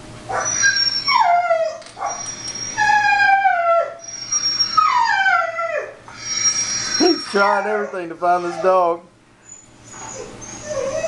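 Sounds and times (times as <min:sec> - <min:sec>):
recorded dog whining and howling: 0:00.3 - 0:11.0.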